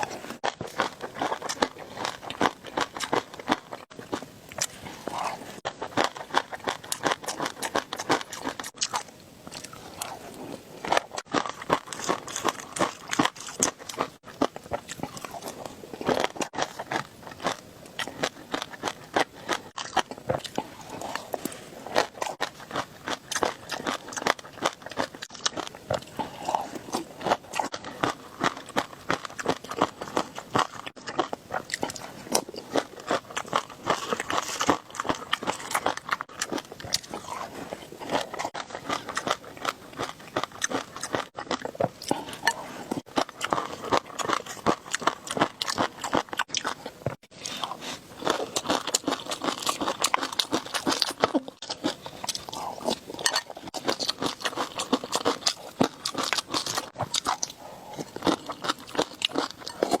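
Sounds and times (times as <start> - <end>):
person chewing crunchy food: 0.0 - 60.0.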